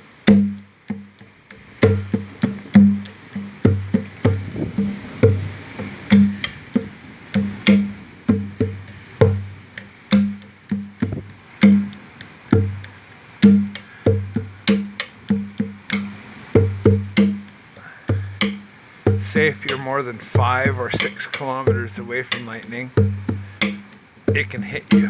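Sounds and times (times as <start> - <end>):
conga drum played by hand: 0.2 - 25.0.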